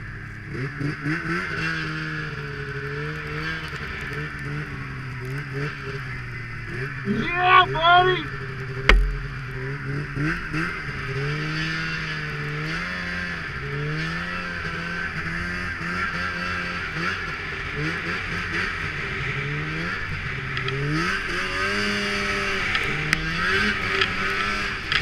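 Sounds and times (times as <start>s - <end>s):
snowmobile engine revving: 0.5s - 25.0s.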